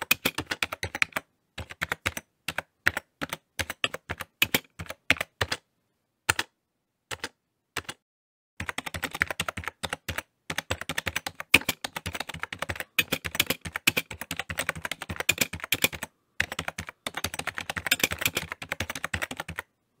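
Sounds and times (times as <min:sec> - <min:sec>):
keyboard typing clicks: 0:00.0 - 0:05.6, 0:06.3 - 0:08.0, 0:08.6 - 0:19.7.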